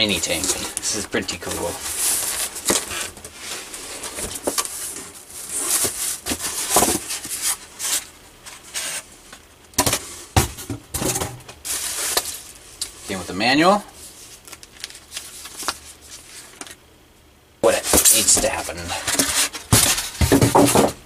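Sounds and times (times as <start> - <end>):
cardboard and foam rustling: 0.0 - 9.2, 11.6 - 16.8, 17.7 - 21.0.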